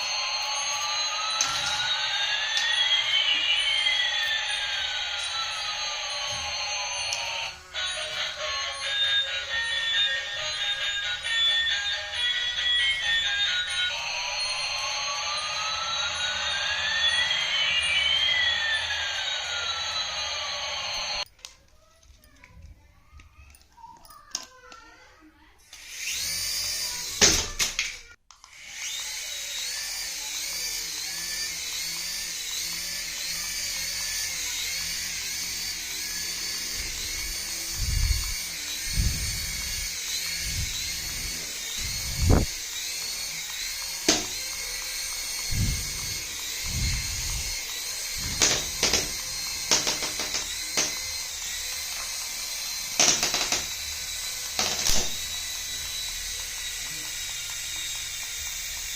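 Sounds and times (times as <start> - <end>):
toy electric motor whining: 0.0 - 58.9.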